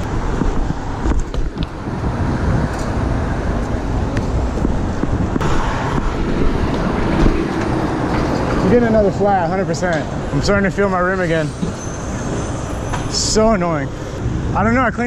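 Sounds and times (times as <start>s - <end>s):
passing vehicles: 0.0s - 15.0s.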